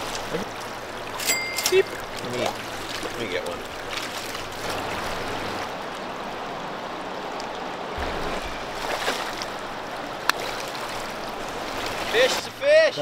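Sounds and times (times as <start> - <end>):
river current rushing: 0.0 - 13.0
small water splashes: 0.0 - 13.0.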